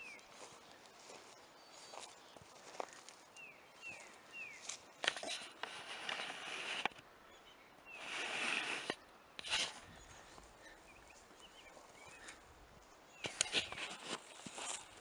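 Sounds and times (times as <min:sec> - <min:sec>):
bird chirping: 0:00.0 - 0:05.4, 0:06.0 - 0:14.0
footsteps through grass and twigs: 0:00.0 - 0:07.0, 0:07.9 - 0:15.0.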